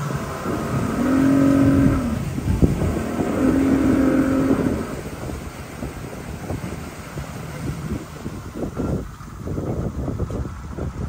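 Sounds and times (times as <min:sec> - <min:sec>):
motorboat engine: 0:00.0 - 0:11.0
water noise: 0:00.0 - 0:11.0.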